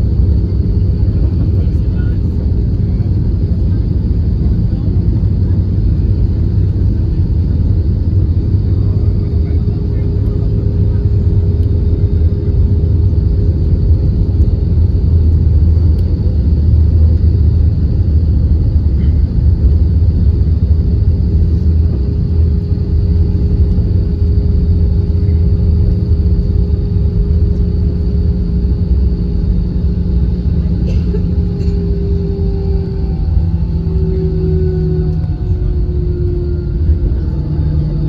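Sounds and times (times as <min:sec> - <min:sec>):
aircraft cabin rumble: 0:00.0 - 0:38.0
constant hum: 0:00.0 - 0:38.0.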